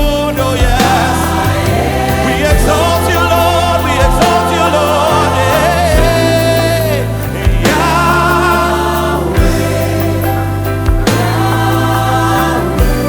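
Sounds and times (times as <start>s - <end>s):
band of keys bass and drums: 0.0s - 13.0s
lead singers and choir singing: 0.0s - 13.0s.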